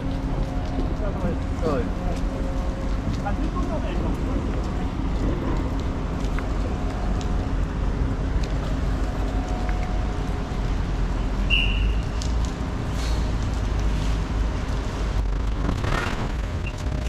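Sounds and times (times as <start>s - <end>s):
ferry low rumble: 0.0s - 11.4s, 12.0s - 17.0s.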